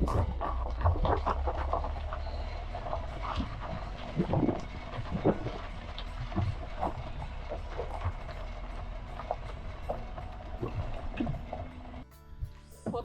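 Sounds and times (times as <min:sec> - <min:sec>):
car jolting over bumps: 0:00.0 - 0:12.1
car engine rumble: 0:00.0 - 0:13.0.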